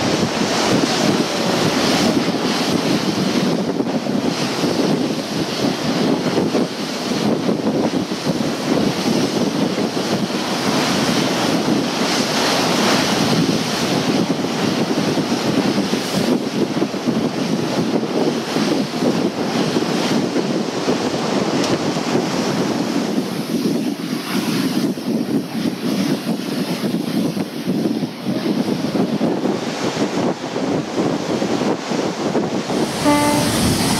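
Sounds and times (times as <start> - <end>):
water rushing against boat hull: 0.0 - 33.9
wind buffeting microphone: 0.0 - 33.9.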